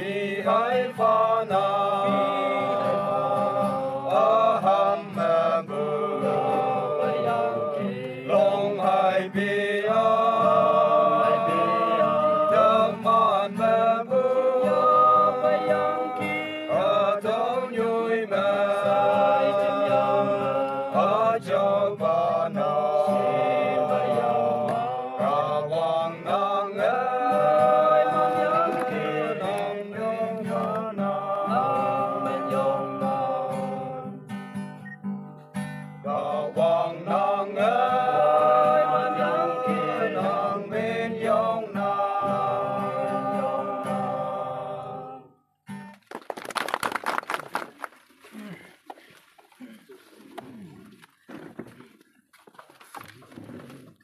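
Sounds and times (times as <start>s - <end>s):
men singing a hymn: 0.0s - 34.4s, 36.0s - 45.4s
strummed acoustic guitar: 0.0s - 46.0s.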